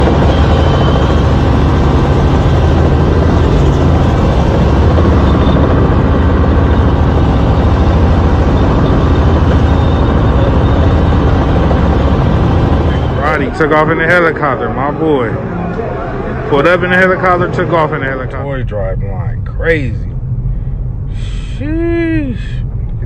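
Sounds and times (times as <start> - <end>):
helicopter rotor and engine: 0.0 - 21.6.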